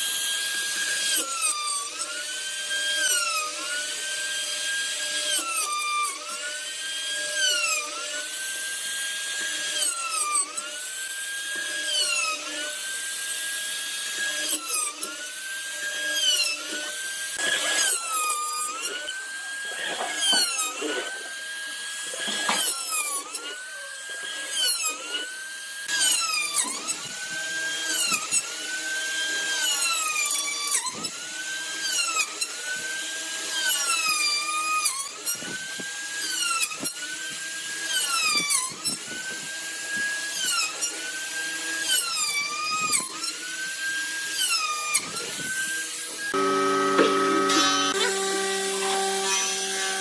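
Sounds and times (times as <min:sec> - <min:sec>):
power tool motor whining: 0:00.0 - 0:50.0.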